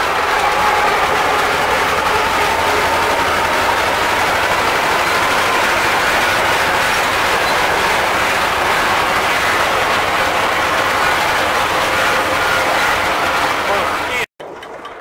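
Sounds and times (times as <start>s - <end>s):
mower machinery noise: 0.0s - 14.3s
tractor engine running under load: 0.0s - 15.0s.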